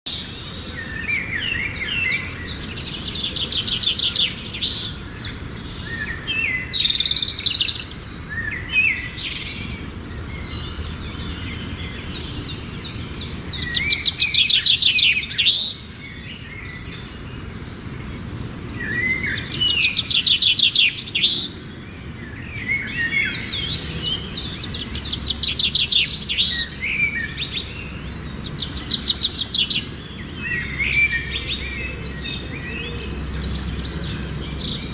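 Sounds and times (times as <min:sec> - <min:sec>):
small birds chirping and trilling: 0:00.1 - 0:34.9.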